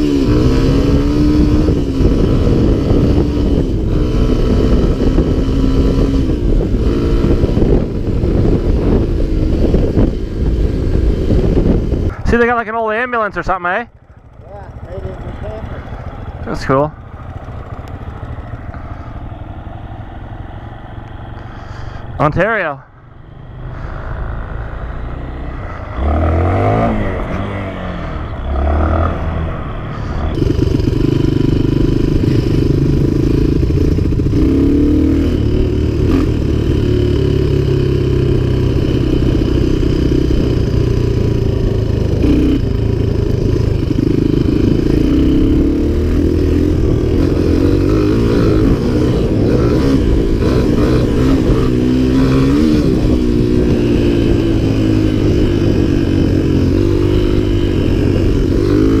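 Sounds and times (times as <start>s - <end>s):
dirt bike engine revving: 0.0s - 19.5s, 23.4s - 59.0s.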